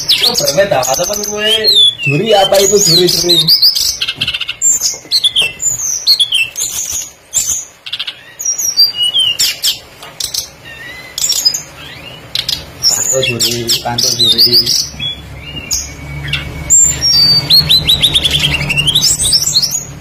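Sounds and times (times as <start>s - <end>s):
bird song with high whistles: 0.0s - 20.0s.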